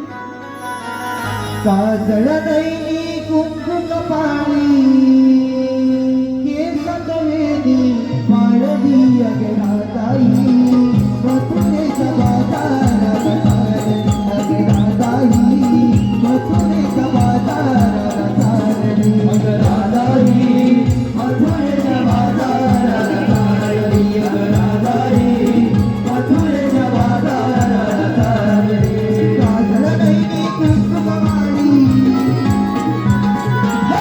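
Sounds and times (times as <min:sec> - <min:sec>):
jingling percussion: 0:00.0 - 0:03.9, 0:08.9 - 0:34.0
person singing melody: 0:00.0 - 0:34.0.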